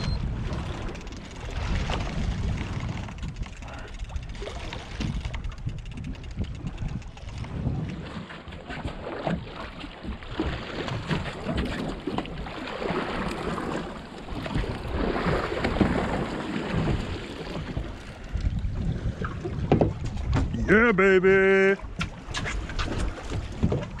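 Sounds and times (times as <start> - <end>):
wind buffeting microphone: 0.0 - 20.9, 21.8 - 24.0
water slapping boat hull: 0.0 - 24.0.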